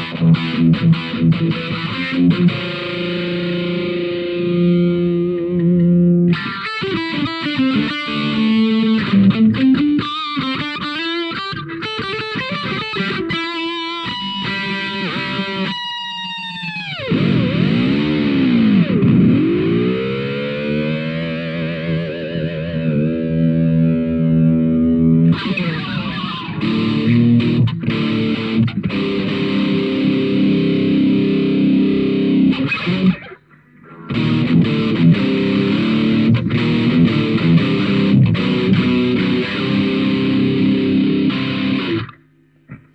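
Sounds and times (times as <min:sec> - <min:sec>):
distorted electric guitar: 0:00.0 - 0:42.9.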